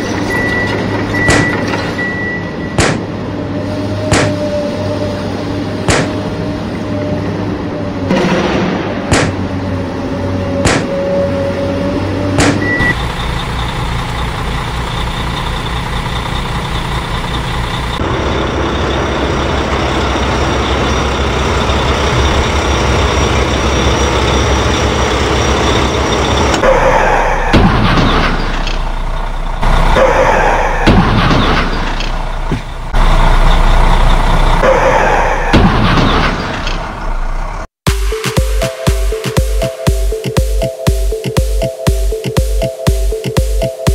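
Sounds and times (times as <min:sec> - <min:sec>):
truck and excavator engines: 0:00.0 - 0:43.9.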